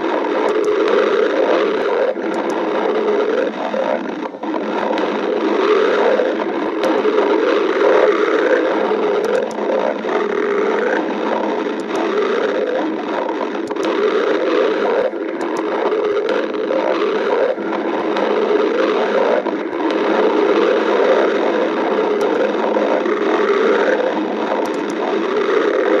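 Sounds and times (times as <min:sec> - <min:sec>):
faint clicks: 0:00.0 - 0:26.0
stomach growling and gurgling: 0:00.0 - 0:26.0.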